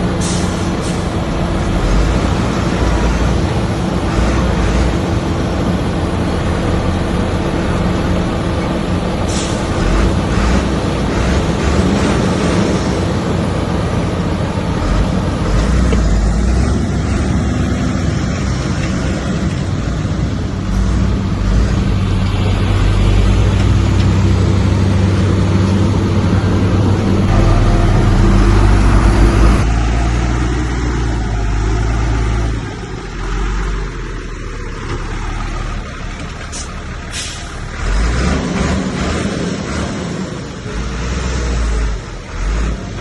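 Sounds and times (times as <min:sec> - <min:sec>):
clatter and rumble: 0:00.0 - 0:43.0
diesel machinery engine running: 0:00.0 - 0:43.0.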